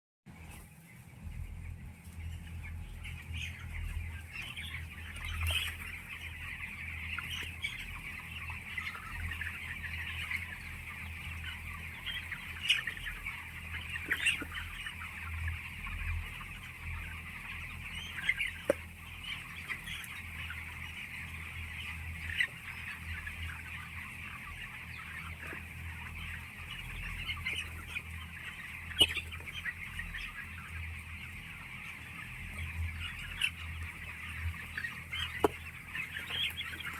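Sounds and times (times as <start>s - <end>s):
chickens clucking and chirping: 0.3s - 36.9s.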